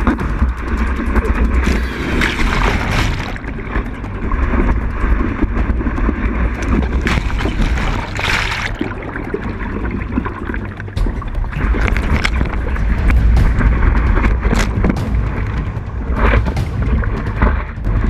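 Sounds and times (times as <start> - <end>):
water rushing and splashing: 0.0 - 18.0
wind rumble on microphone: 0.0 - 18.0.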